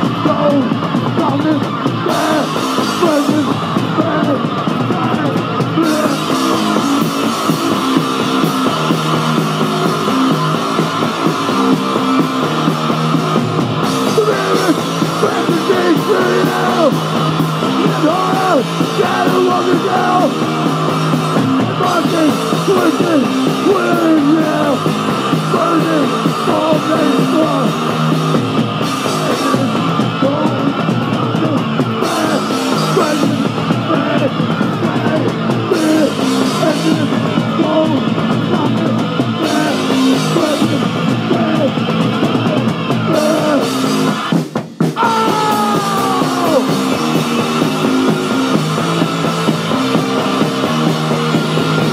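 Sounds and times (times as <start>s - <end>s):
distorted electric guitars: 0.0s - 51.9s
drums: 0.0s - 51.9s
punk band playing live: 0.0s - 51.9s.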